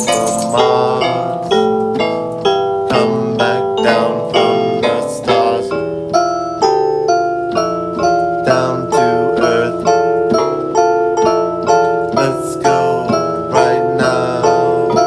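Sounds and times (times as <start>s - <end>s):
keyboard bell-like notes: 0.0s - 15.0s.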